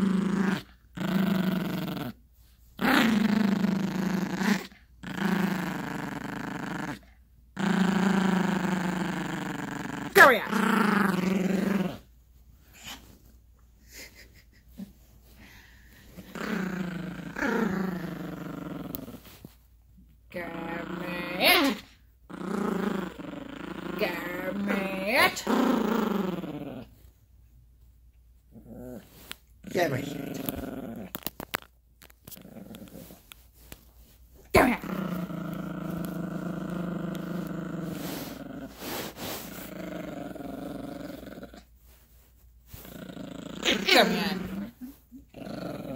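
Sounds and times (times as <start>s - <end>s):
puppy play-growling: 0.0s - 27.6s, 28.4s - 45.9s.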